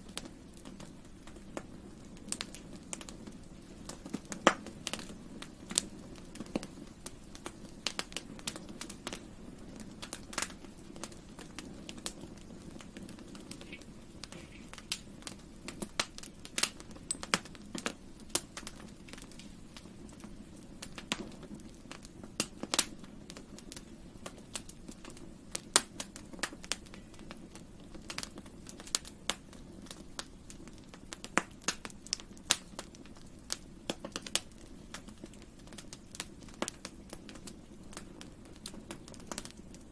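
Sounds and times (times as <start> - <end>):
campfire crackling and popping: 0.0 - 39.9
low rush of burning: 0.0 - 39.9.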